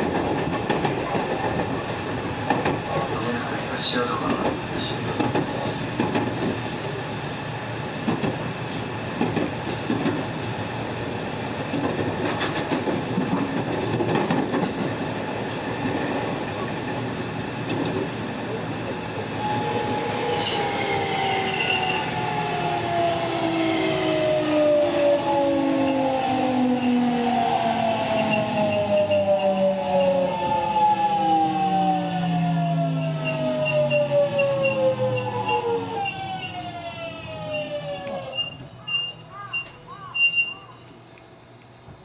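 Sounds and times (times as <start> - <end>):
train wheels on rails: 0.0 - 42.0.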